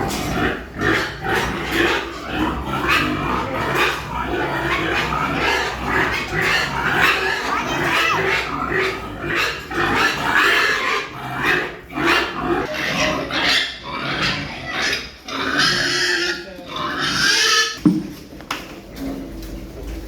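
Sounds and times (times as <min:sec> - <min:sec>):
pigs grunting: 0:00.0 - 0:17.8.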